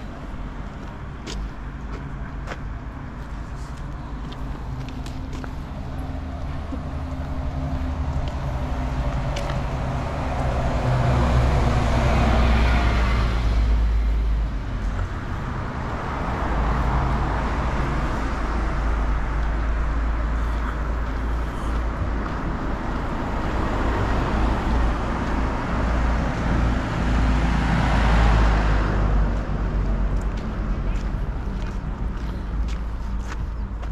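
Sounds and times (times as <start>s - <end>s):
cars driving past: 0.0s - 33.9s.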